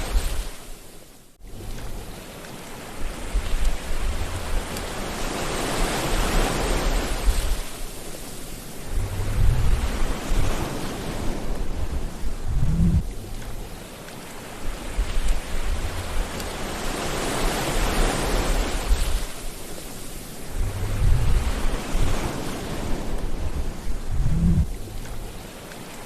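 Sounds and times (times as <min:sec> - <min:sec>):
sea waves breaking: 0:00.0 - 0:26.0
low rumbling surges: 0:02.9 - 0:25.4.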